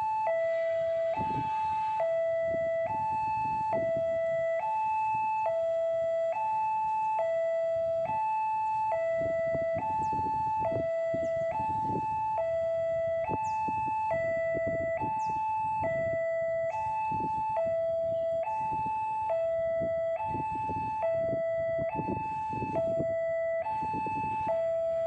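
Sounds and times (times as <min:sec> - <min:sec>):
two-tone warning alarm: 0:00.0 - 0:25.0.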